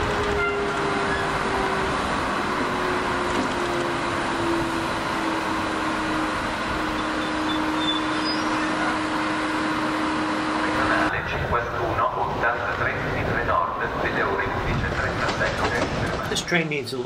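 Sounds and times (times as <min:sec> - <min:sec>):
electric locomotive rushing: 0:00.0 - 0:17.0.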